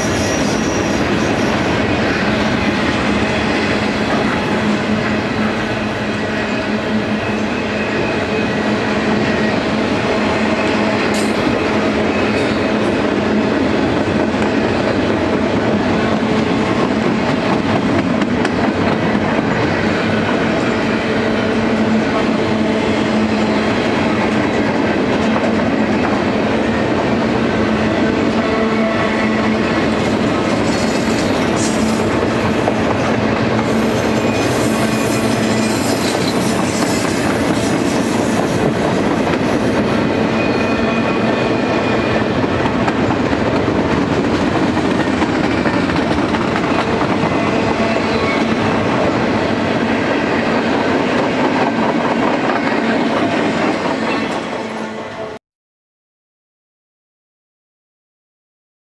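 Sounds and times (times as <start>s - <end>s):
train wheels rumbling on rails: 0.0s - 54.8s.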